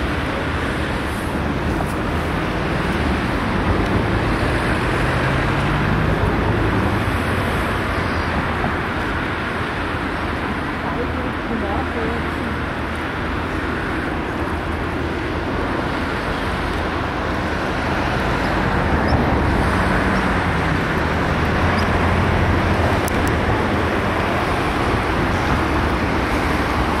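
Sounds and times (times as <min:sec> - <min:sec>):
traffic rumble and hiss: 0:00.0 - 0:27.0.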